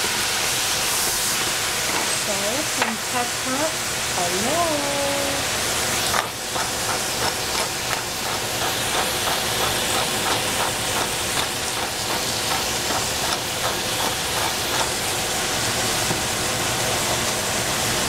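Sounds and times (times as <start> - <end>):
greens sizzling in oil: 0.0 - 18.0.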